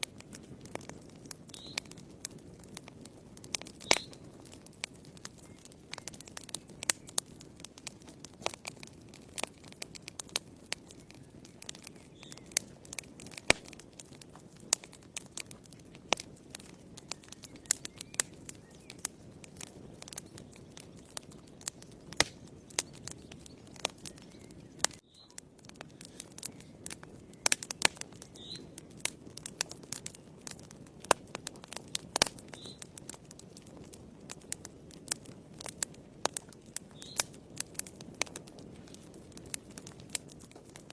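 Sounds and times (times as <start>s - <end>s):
fire popping and snapping: 0.0s - 40.9s
fire rushing: 0.0s - 40.9s.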